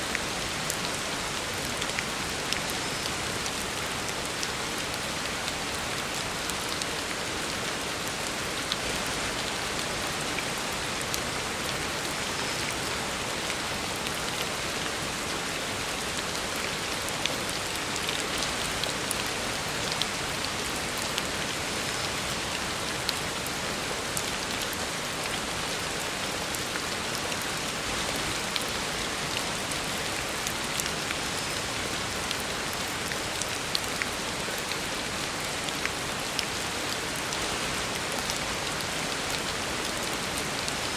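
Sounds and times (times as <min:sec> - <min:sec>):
heavy rain on road: 0:00.0 - 0:40.9.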